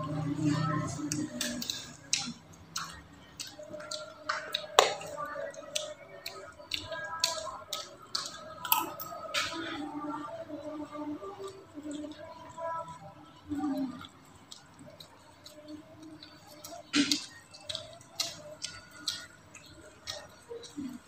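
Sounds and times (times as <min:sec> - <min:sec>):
faint voices: 0:00.0 - 0:21.0.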